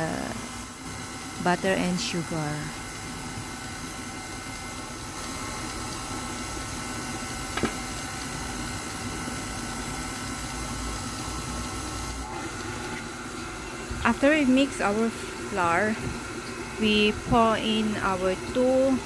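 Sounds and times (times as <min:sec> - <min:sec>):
electric mixer running: 0:00.0 - 0:19.0.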